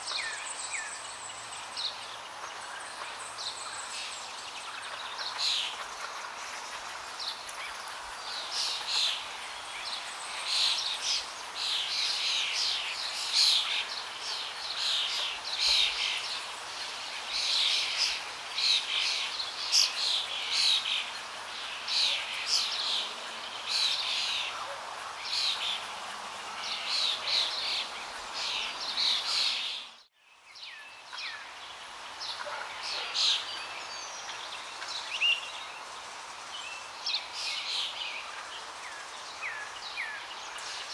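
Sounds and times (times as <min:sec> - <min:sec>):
birds chirping chorus: 0:00.0 - 0:40.9.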